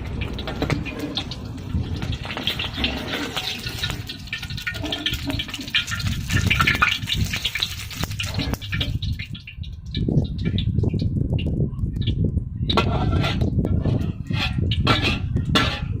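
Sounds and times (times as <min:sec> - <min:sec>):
hot oil sizzling and crackling: 0:00.0 - 0:16.0
low rumble: 0:00.0 - 0:16.0.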